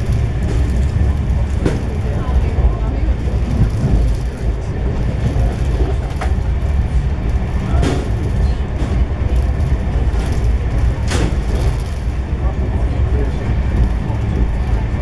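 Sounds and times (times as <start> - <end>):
train coach rumble and rush: 0.0 - 15.0.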